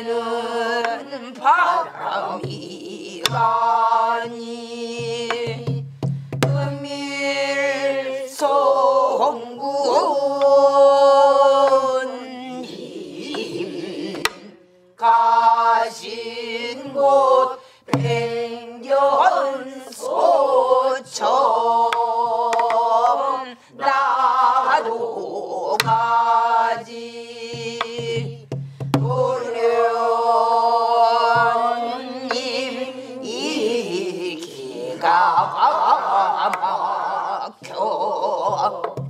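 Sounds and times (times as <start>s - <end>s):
group singing slow lament: 0.0s - 39.0s.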